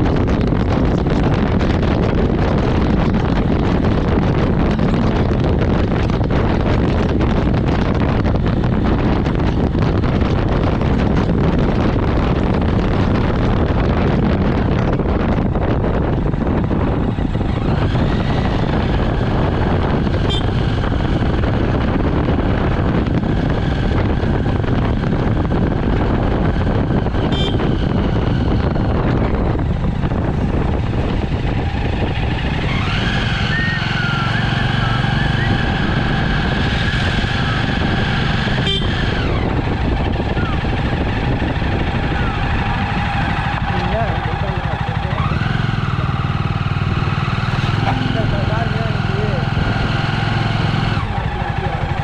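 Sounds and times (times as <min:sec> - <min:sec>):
engine whine: 0:00.0 - 0:52.0
motorcycle engine running: 0:00.0 - 0:52.0
wind rushing over microphone: 0:00.0 - 0:52.0.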